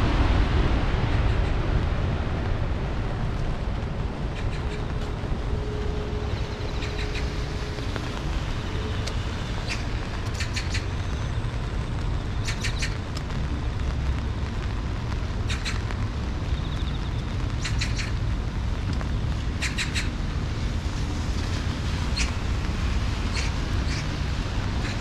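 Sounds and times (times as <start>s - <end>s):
heavy rain hissing: 0.0s - 25.0s
road traffic rumble: 0.0s - 25.0s.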